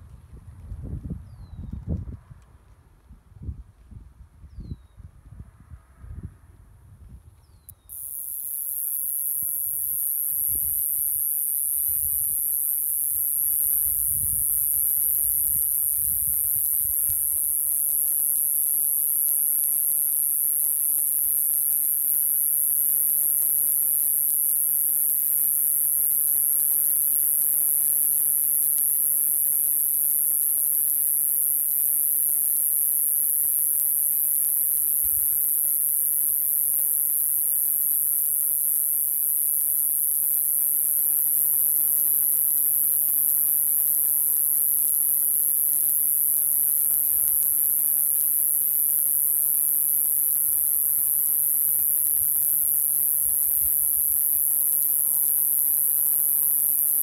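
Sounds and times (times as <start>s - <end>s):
cicada buzzing: 7.7s - 57.0s.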